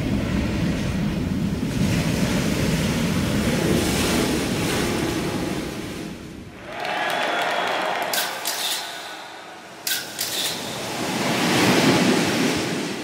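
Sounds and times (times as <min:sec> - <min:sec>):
ocean wave breaking: 0:01.6 - 0:13.0.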